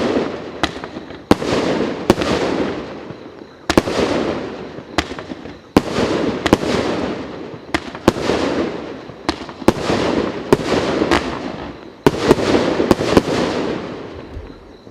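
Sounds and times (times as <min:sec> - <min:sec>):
firework shots cracking: 0:00.0 - 0:14.4.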